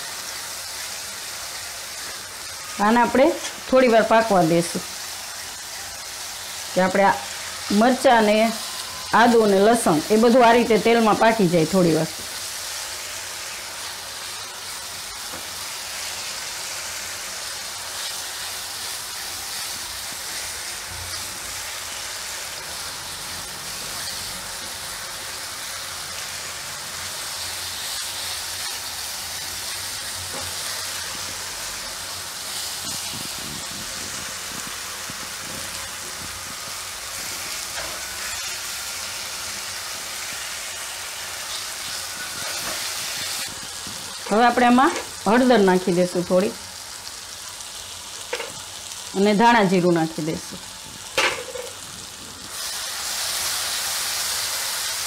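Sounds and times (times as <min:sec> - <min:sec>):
paste sizzling in oil: 0:00.0 - 0:55.0.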